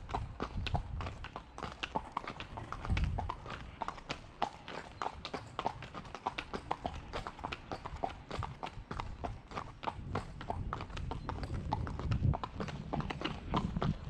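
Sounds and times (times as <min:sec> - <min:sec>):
horse hooves on pavement: 0:00.0 - 0:14.0.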